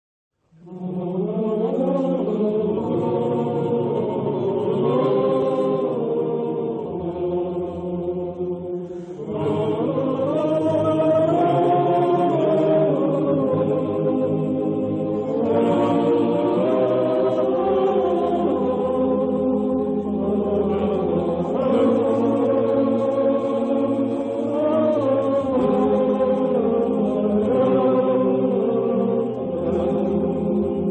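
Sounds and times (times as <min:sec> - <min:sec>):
choir singing a slow chant: 0:00.5 - 0:30.9.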